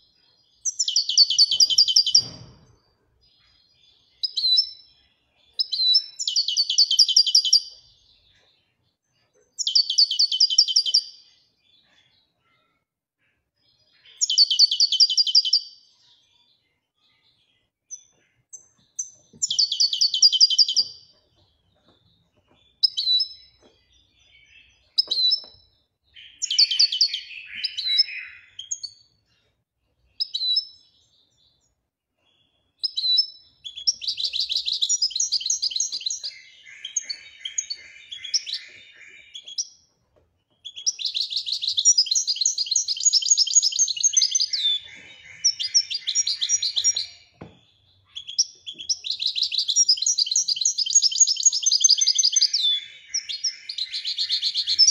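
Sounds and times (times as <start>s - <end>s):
goldfinch singing: 0.6s - 2.4s, 3.4s - 8.2s, 9.5s - 11.4s, 14.0s - 16.1s, 17.3s - 29.4s, 32.8s - 39.9s, 40.5s - 54.9s.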